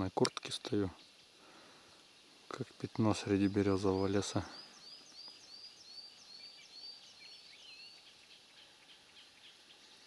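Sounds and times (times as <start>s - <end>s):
other birds calling: 0.0s - 10.0s.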